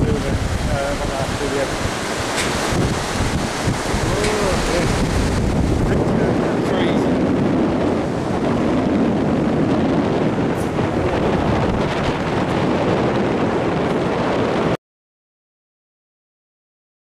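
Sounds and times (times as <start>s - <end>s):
strong wind on microphone: 0.0s - 14.8s.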